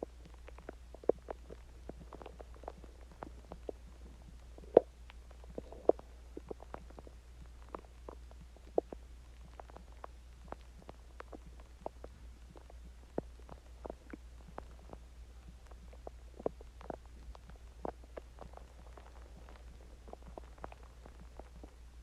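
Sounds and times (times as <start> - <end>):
stomach gurgling: 0.0 - 22.0.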